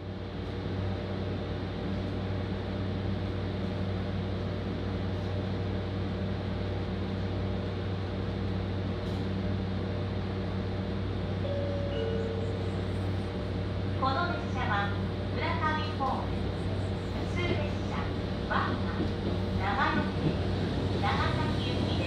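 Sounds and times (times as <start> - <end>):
train carriage hum: 0.0 - 22.0.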